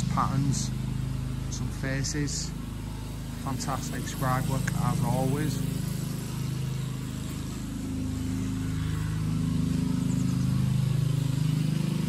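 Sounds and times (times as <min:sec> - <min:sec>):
engine low pulsing drone: 0:00.0 - 0:12.0.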